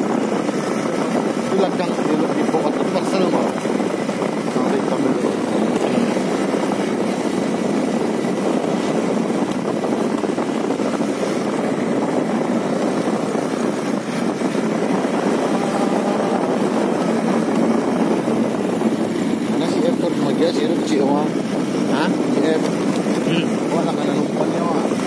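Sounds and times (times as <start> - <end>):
vehicle running: 0.0 - 25.0
wind on microphone: 0.0 - 25.0.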